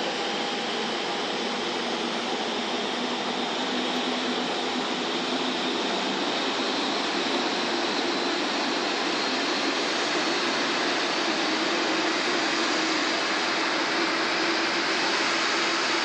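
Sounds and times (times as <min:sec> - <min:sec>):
jet aircraft rushing hiss: 0:00.0 - 0:16.0.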